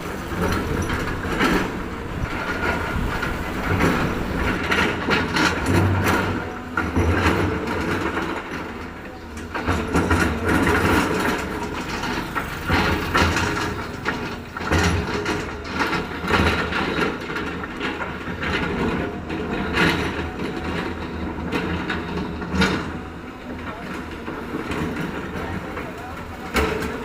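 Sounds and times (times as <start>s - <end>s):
heavy machinery engine drone: 0.0s - 27.0s.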